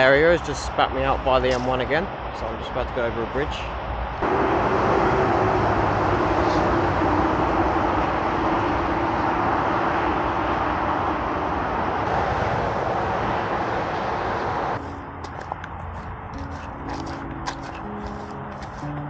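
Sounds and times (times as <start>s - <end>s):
heavy motorway traffic rush: 0.0s - 19.0s.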